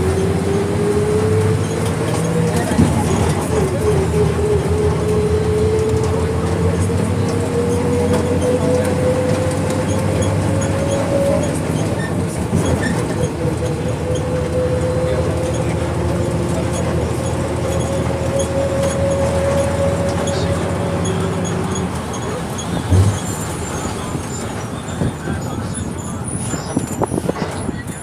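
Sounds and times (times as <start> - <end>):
bus engine drone: 0.0 - 28.0.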